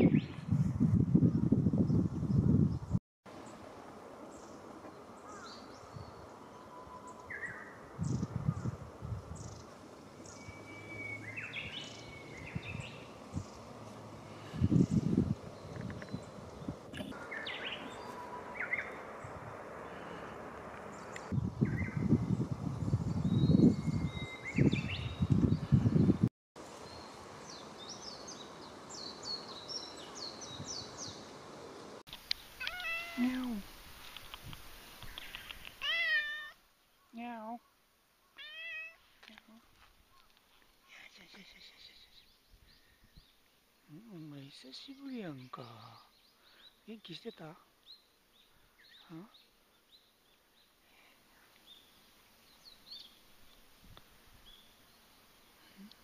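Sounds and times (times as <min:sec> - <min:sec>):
faint outdoor hiss: 0:03.3 - 0:56.0
small birds chirping: 0:04.3 - 0:56.0.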